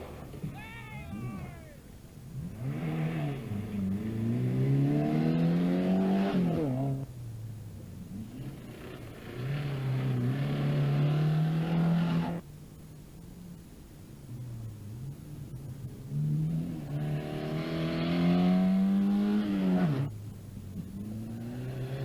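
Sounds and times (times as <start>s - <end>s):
rally car engine revving: 0.0s - 7.2s, 7.8s - 12.4s, 14.3s - 22.0s.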